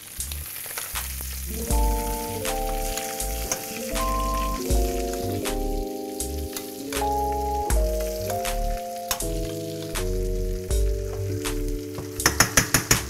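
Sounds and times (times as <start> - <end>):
background music with bass: 0.0 - 13.0
butter sizzling and popping: 0.0 - 13.0.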